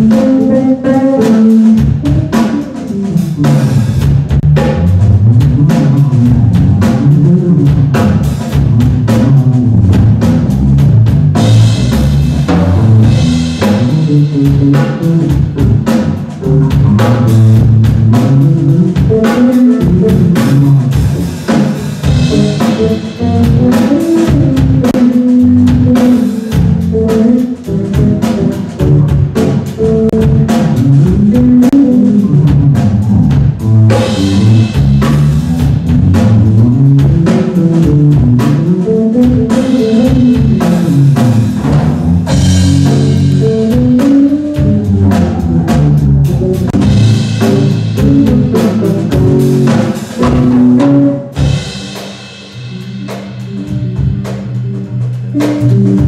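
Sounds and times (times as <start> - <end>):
drum kit keeping time: 0.0 - 56.0
electric bass guitar playing: 0.0 - 56.0.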